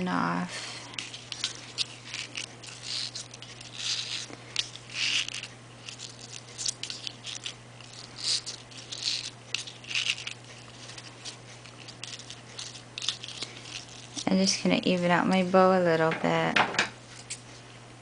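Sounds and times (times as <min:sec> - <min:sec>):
ribbon and cardstock rustling: 0:01.0 - 0:15.6.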